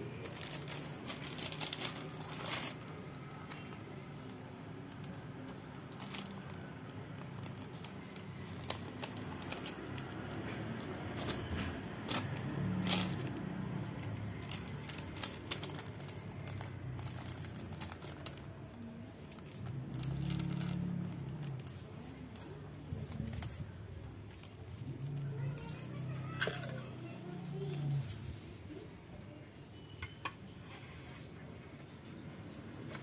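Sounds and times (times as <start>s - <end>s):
plastic sheet crinkling: 0.0s - 28.8s.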